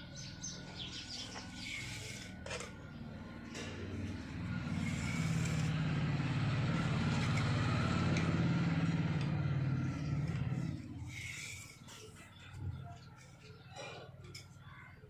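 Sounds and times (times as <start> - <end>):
engine humming: 0.0 - 14.6.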